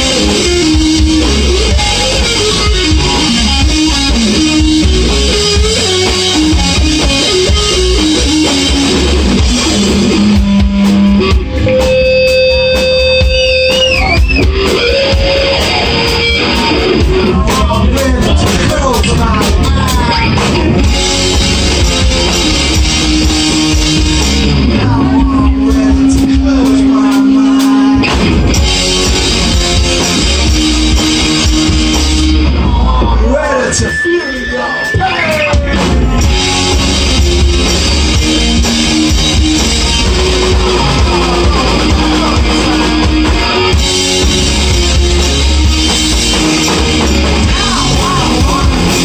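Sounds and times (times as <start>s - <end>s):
distorted electric guitar: 0.0s - 49.0s
rock band playing: 0.0s - 49.0s.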